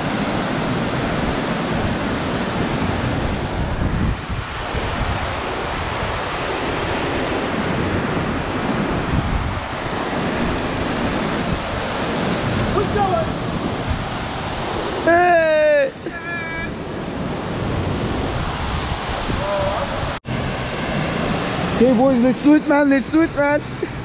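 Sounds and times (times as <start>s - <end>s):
wind buffeting microphone: 0.0s - 15.1s, 16.7s - 22.2s.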